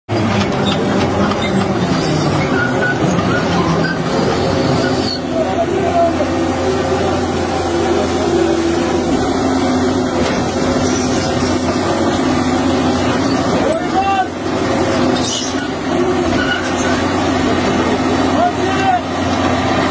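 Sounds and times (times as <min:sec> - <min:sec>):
diesel engine running: 0:00.1 - 0:19.9
excavator track noise: 0:00.1 - 0:19.9.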